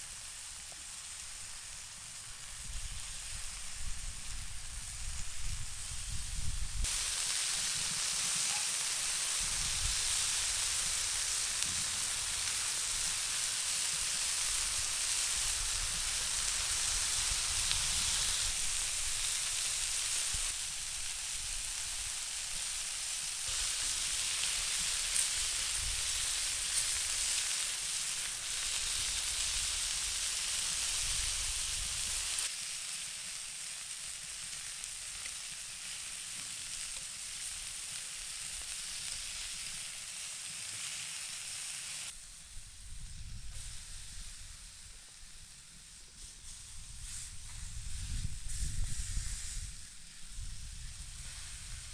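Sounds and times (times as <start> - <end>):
food sizzling in a pan: 0.0 - 51.9.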